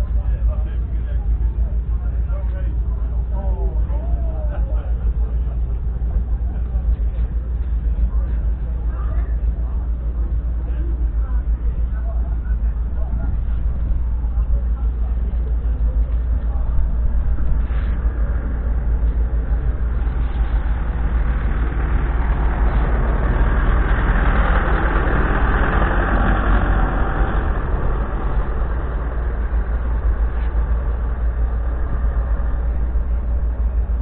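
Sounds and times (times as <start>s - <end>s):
tractor diesel engine idling: 0.0s - 34.0s.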